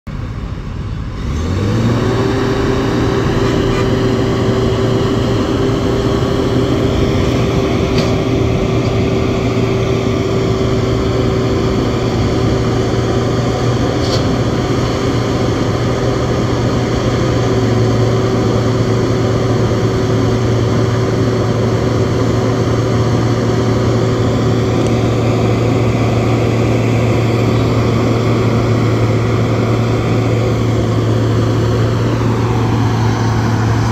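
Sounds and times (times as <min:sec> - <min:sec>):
heavy diesel engines droning: 0:00.1 - 0:33.9.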